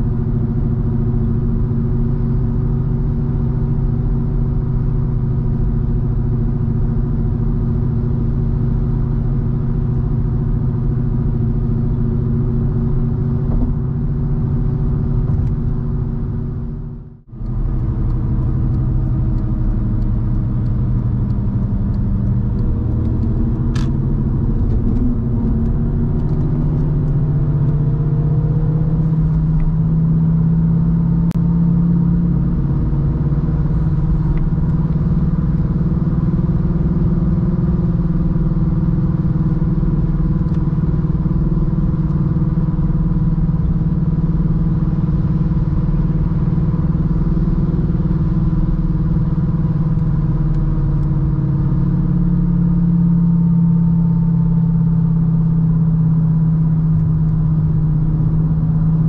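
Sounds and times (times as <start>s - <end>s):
car engine at highway speed: 0.0s - 59.0s
road noise: 0.0s - 59.0s.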